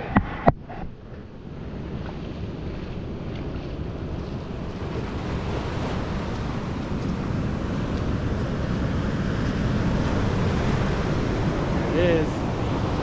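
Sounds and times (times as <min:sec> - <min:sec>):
wind buffeting microphone: 0:00.0 - 0:13.0
ocean surf breaking: 0:01.0 - 0:13.0.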